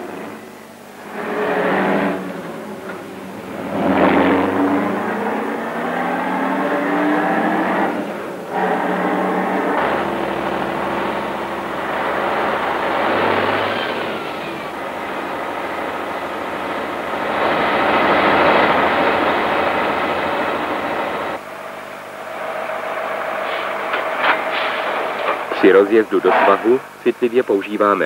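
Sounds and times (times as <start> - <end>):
heavy truck diesel engine: 0.0 - 27.6.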